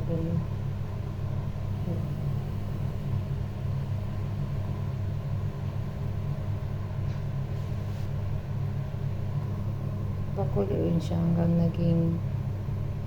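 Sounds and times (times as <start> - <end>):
steady low hum and rumble: 0.0 - 13.0.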